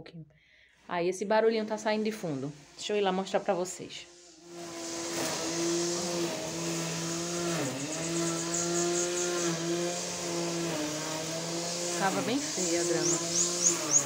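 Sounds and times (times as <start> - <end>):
grass-cutting machine motor hum: 1.6 - 14.0.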